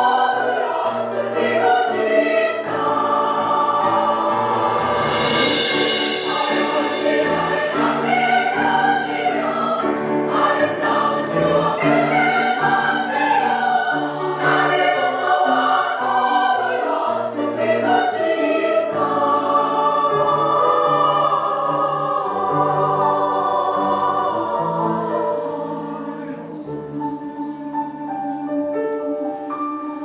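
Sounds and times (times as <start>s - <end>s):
choir singing: 0.0s - 30.0s
instrumental accompaniment: 0.0s - 30.0s.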